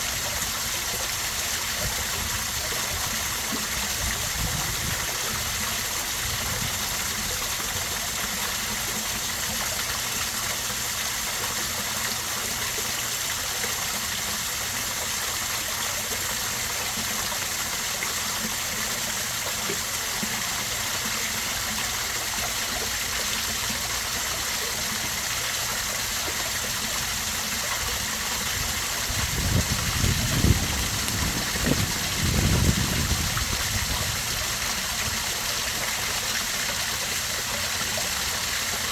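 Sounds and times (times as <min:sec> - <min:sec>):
waterfall splashing into pond: 0:00.0 - 0:38.9.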